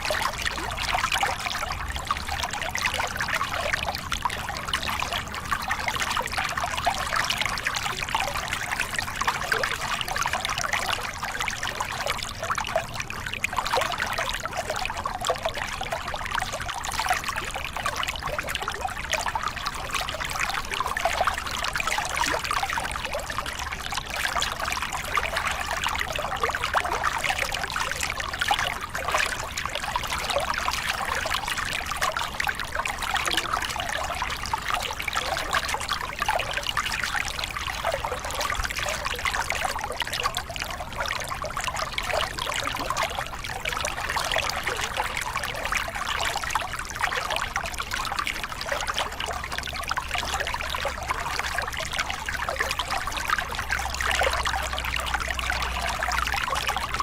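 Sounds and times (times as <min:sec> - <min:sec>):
water splashing over rocks: 0:00.0 - 0:57.0.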